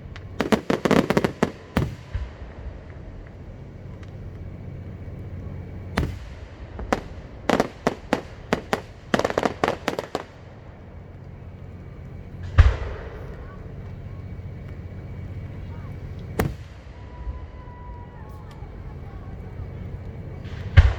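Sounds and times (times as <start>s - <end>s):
fireworks banging: 0.0s - 20.9s.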